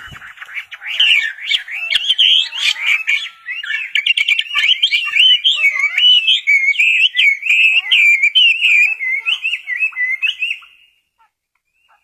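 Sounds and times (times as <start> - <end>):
songbird warbling: 0.0 - 11.0.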